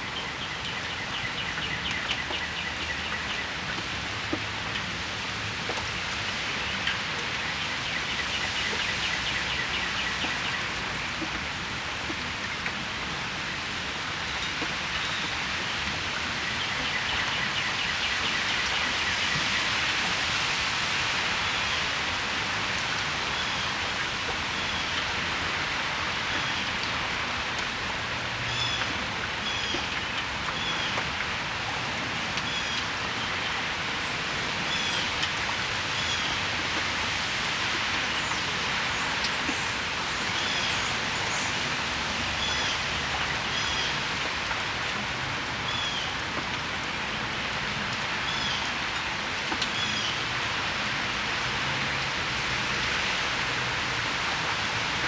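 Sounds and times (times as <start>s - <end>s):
steady rain on patio: 0.0s - 55.0s.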